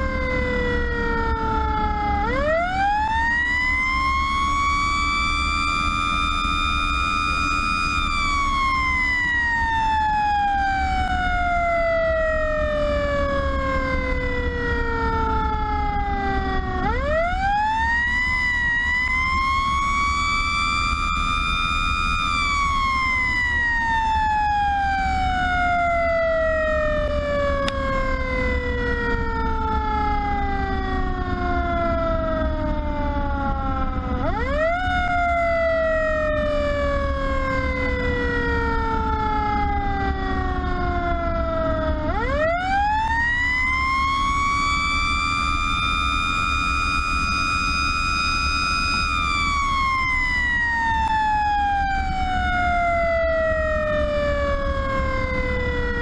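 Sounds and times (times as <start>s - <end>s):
fire truck siren: 0.0s - 56.0s
road noise: 0.0s - 56.0s
truck engine drone: 0.0s - 56.0s.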